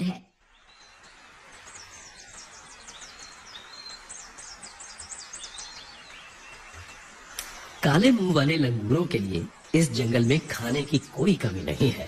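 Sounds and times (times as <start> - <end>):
birds chirping: 0.0 - 12.0
forest ambience hiss: 0.0 - 12.0.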